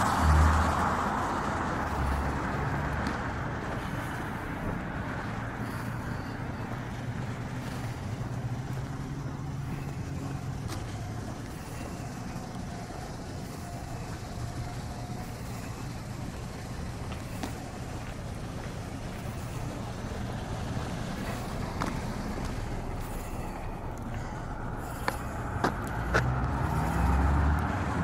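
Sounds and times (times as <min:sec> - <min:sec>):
passing vehicle engine hum: 0:00.0 - 0:28.0
steady low traffic rumble: 0:00.0 - 0:28.0.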